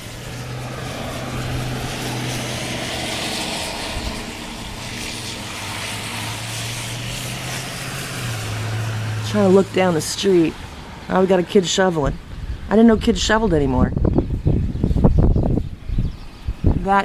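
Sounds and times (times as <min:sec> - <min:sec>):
vehicle passing on wet street: 0:00.0 - 0:16.6
low engine hum: 0:00.0 - 0:16.9.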